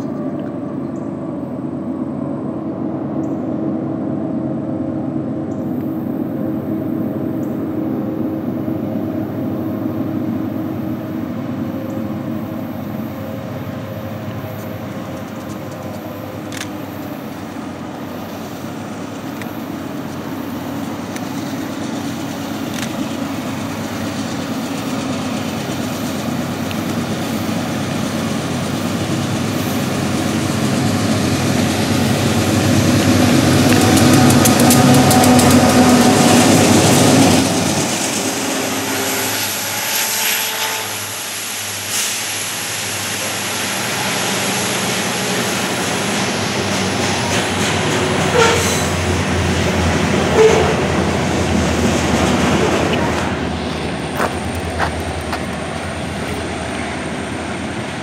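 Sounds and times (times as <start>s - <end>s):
diesel locomotive engine drone: 0.0s - 58.0s
freight cars rolling rumble: 0.0s - 58.0s.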